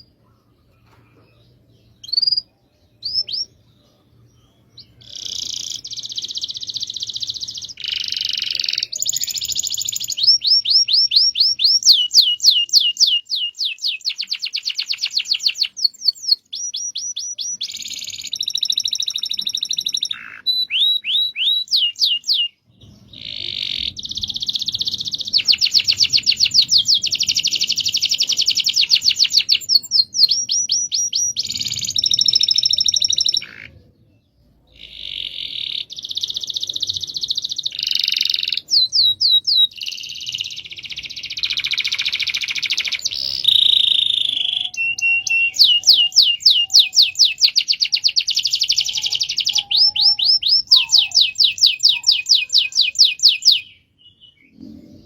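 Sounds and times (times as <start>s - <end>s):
canary singing rolling trills: 0.0s - 55.0s.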